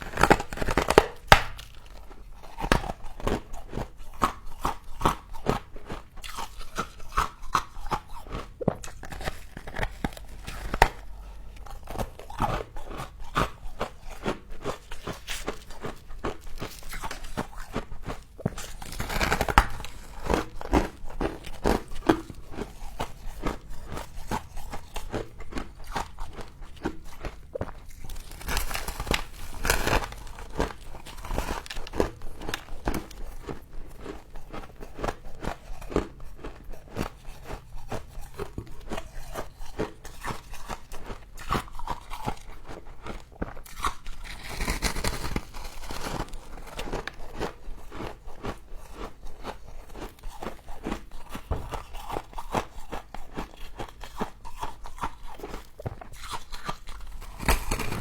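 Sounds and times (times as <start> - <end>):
crunchy frost chewing: 0.0 - 58.0.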